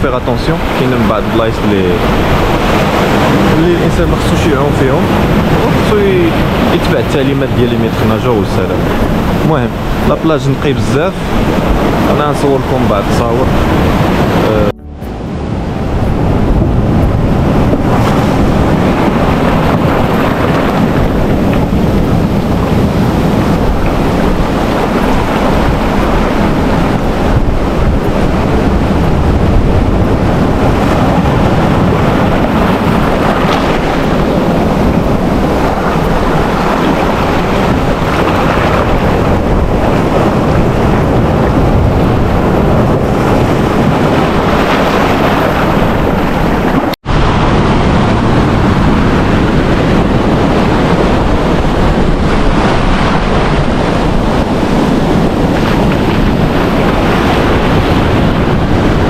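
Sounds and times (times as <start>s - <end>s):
ocean waves surf: 0.0s - 59.0s
wind buffeting microphone: 0.0s - 59.0s.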